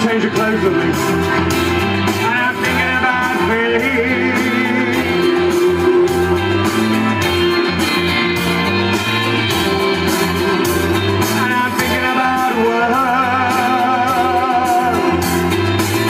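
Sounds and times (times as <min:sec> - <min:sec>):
pop-rock music over sound system: 0:00.0 - 0:16.0.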